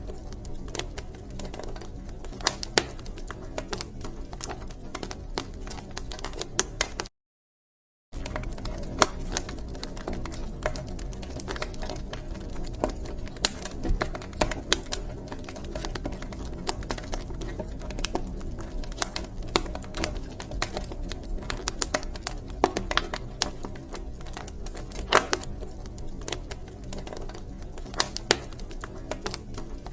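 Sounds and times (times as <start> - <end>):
wood fire crackling: 0.0 - 7.1, 8.2 - 29.9.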